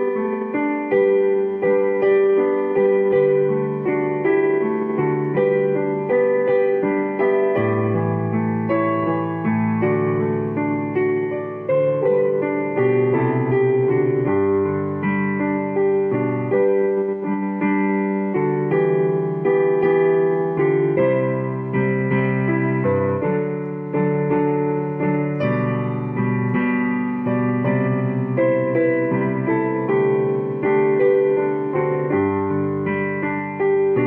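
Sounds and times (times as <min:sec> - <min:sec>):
slow piano chords: 0:00.0 - 0:34.0.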